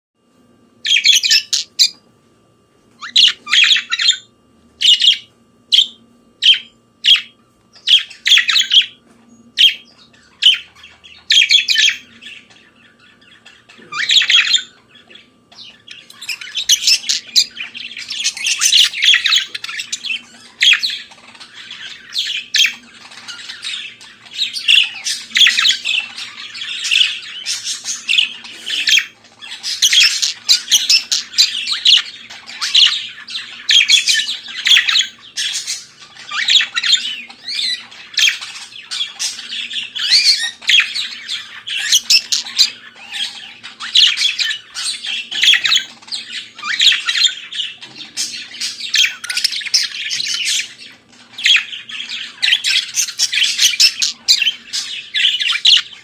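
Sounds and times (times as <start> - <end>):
budgerigar chirping and warbling: 0.8 - 2.0, 3.0 - 9.0, 9.6 - 56.0.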